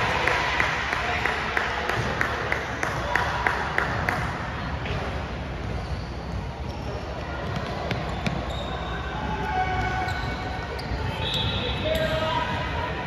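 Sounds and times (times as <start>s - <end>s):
gym background noise: 0.0s - 13.0s.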